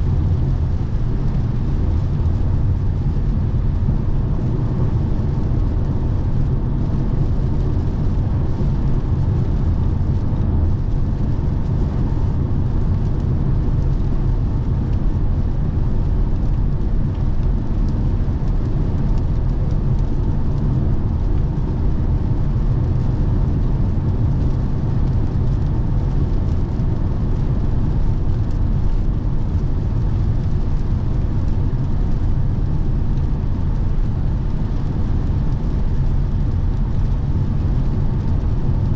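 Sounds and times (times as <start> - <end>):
tyre and wind rumble: 0.0 - 38.9.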